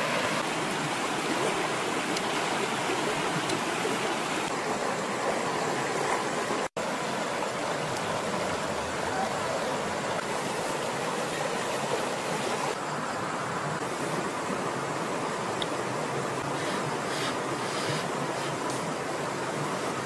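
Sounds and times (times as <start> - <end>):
river water rushing over rocks: 0.0 - 20.0.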